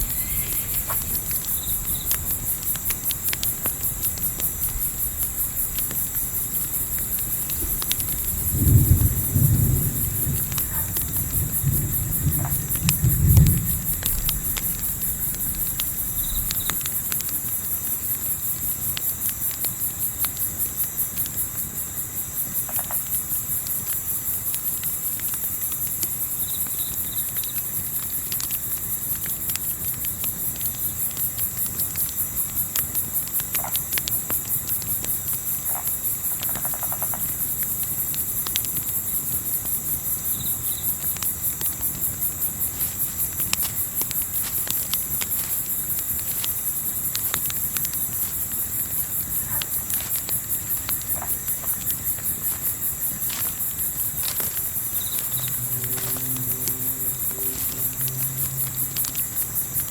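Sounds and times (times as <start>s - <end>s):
campfire crackles: 0.0s - 59.9s
crickets chirping: 0.0s - 59.9s.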